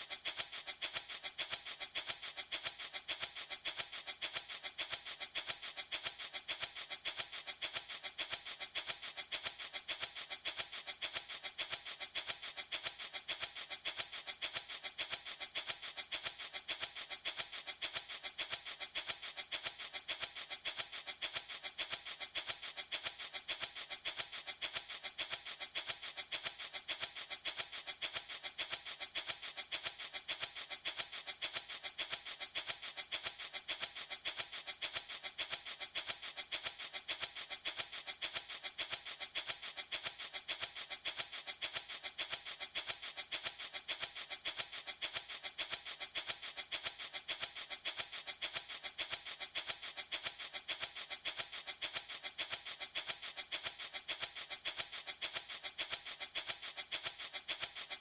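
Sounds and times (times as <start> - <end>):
wooden baby rattle shaken: 0.0 - 58.0.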